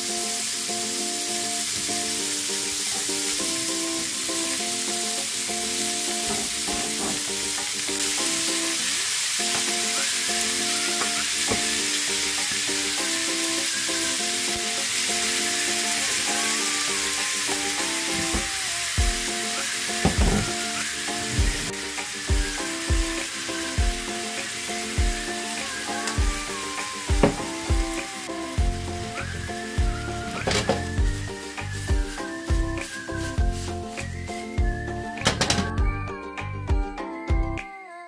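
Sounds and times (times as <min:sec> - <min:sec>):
food sizzling in a frying pan: 0:00.0 - 0:35.9
light background music: 0:00.0 - 0:37.7.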